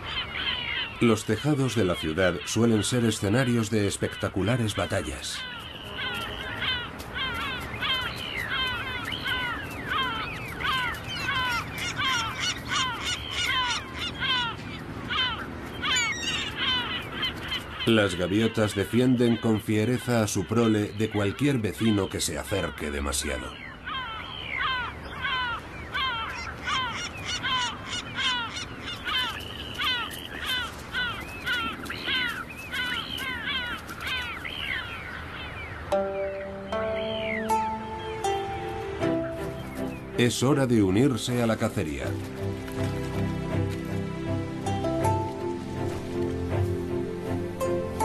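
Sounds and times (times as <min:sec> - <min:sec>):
gulls calling: 0:00.0 - 0:48.0.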